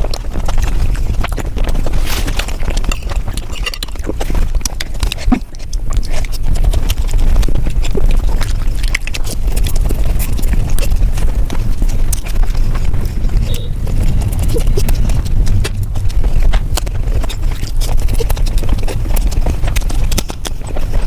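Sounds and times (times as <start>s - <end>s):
crunching and chewing food: 0.0s - 21.0s.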